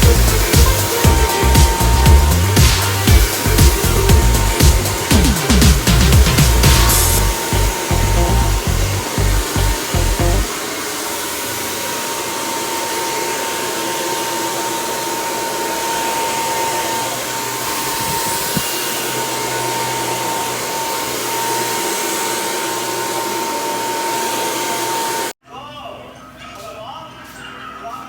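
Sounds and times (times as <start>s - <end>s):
hair dryer blowing with whine: 0.0s - 25.4s.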